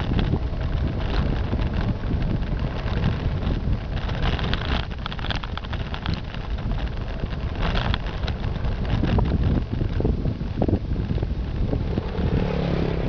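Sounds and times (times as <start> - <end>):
car engine and road rumble: 0.0 - 13.0
wind buffeting microphone: 0.0 - 13.0.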